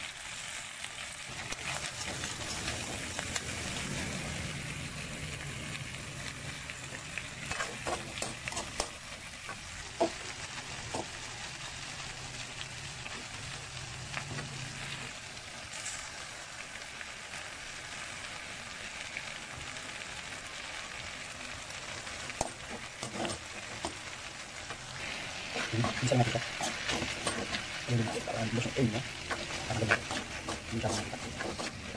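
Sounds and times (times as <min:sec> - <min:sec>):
meat sizzling in a wok: 0:00.0 - 0:31.9.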